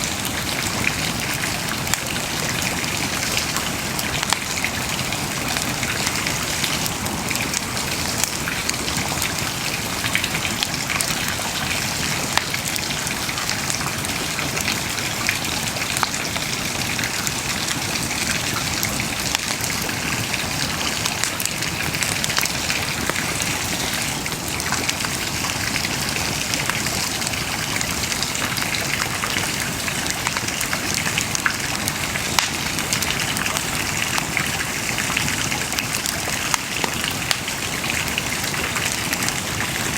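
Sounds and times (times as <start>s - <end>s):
bonfire hissing: 0.0s - 39.9s
fire crackles and pops: 0.0s - 39.9s.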